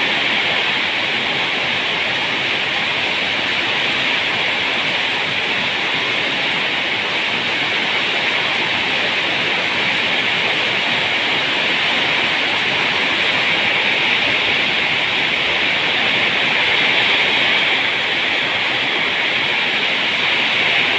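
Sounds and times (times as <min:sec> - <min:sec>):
heavy rain pouring: 0:00.0 - 0:20.9.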